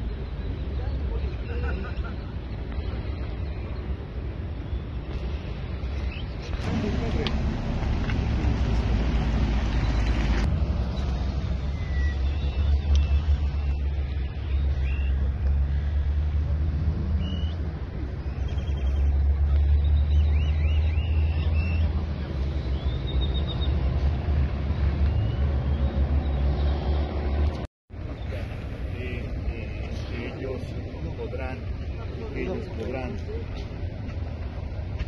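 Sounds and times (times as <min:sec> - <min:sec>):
vehicle engines rumbling: 0:00.0 - 0:35.0.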